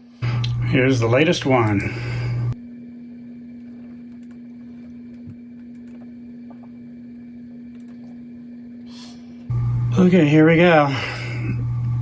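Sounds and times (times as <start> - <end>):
low-pitched hum: 0.0 - 12.0.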